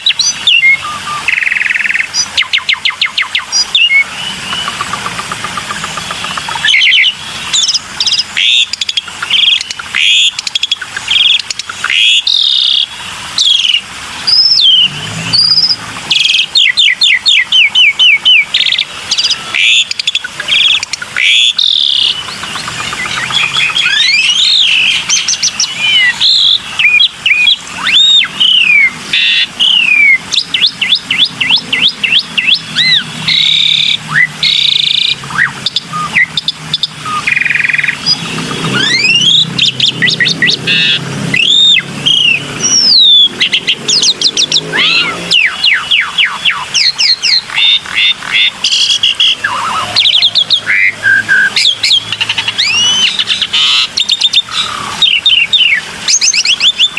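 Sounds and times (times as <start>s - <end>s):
starling singing: 0.0s - 56.9s.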